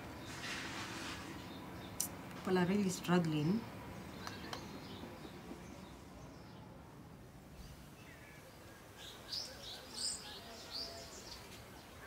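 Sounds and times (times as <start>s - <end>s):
faint background ambience: 0.0s - 12.0s.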